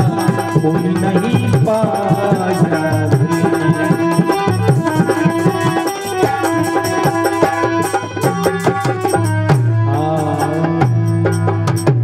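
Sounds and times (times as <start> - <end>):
harmonium chords and melody: 0.0 - 12.0
tabla rhythm: 0.0 - 12.0.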